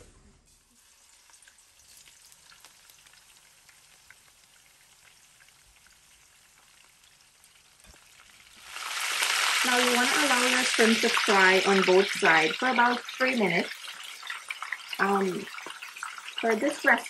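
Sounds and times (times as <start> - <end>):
crackles and pops of frying: 0.5 - 17.0
shrimp sizzling in oil: 0.5 - 17.0.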